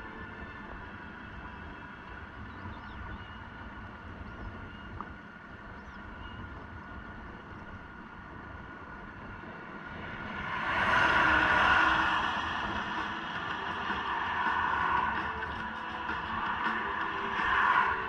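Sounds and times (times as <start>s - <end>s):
steady high hum: 0.0s - 18.0s
wind rumble on microphone: 0.0s - 18.0s.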